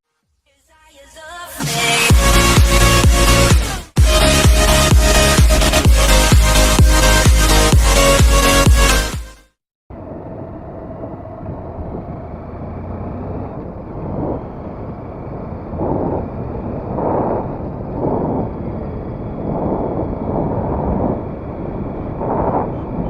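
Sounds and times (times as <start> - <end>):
road and wind noise: 2.1 - 9.1, 9.9 - 23.0.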